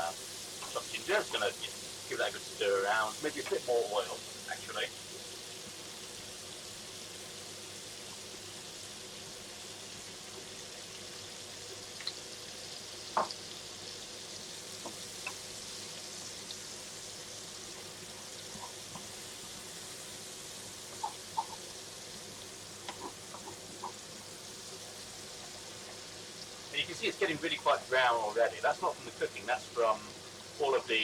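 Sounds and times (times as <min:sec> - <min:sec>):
onions sizzling in a frying pan: 0:00.0 - 0:31.0.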